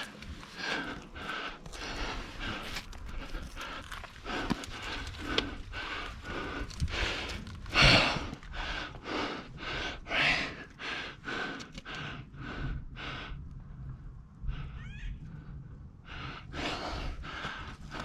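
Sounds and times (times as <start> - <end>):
person breathing heavily: 0.0 - 13.8, 15.5 - 18.0.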